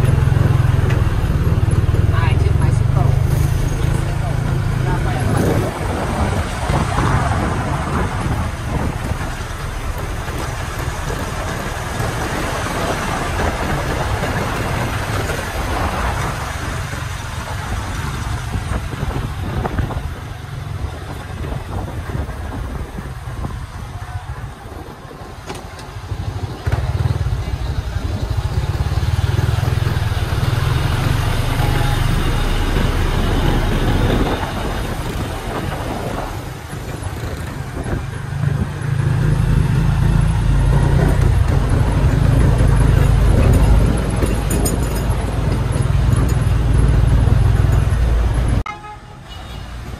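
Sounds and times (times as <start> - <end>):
rolling tyres: 0.0 - 49.9
truck engines: 0.0 - 49.9.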